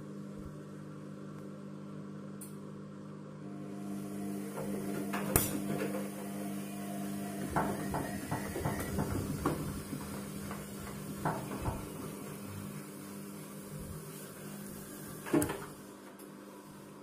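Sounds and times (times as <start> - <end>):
washing machine motor humming: 3.2 - 17.0.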